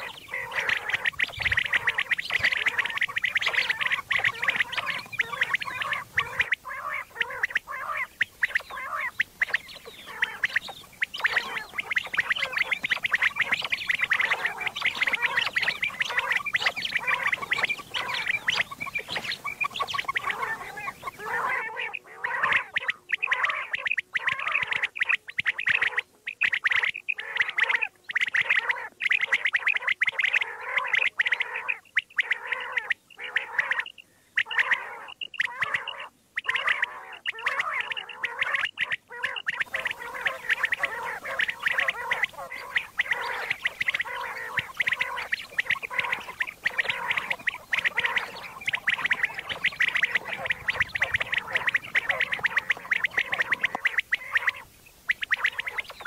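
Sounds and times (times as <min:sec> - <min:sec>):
quail calling: 0:00.0 - 0:56.0.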